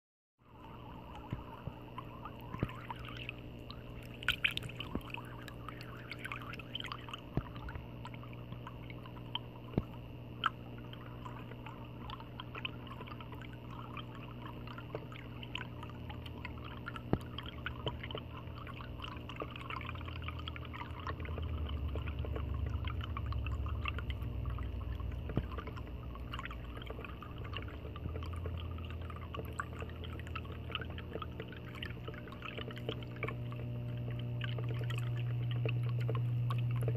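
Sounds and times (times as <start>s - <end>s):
steady low hum: 0.4s - 36.9s.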